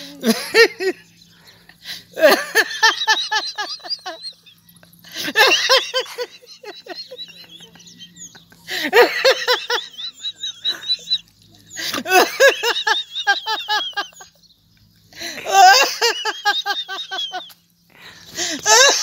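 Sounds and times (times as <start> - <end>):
man laughing heartily: 0.0 - 19.0.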